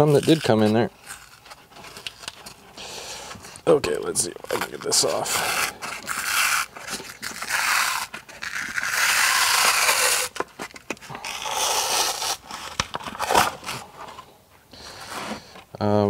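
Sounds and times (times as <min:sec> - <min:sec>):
membrane tearing and scraping: 0:00.0 - 0:14.3
crackles: 0:00.0 - 0:15.2.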